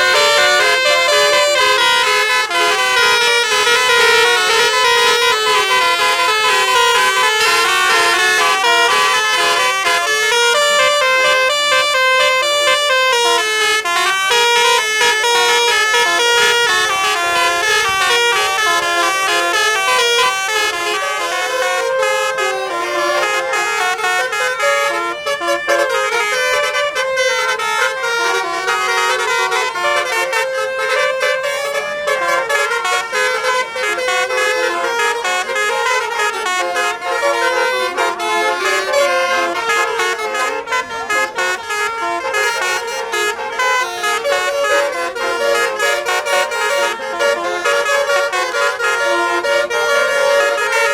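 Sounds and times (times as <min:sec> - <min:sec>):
bus horn playing melody: 0:00.0 - 0:50.9.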